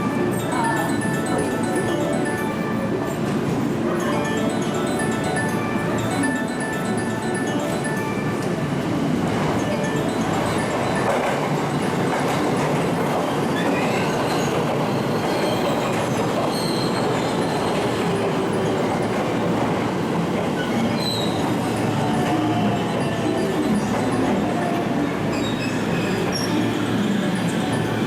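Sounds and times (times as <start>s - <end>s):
train wheels running on rails: 0.0s - 28.0s.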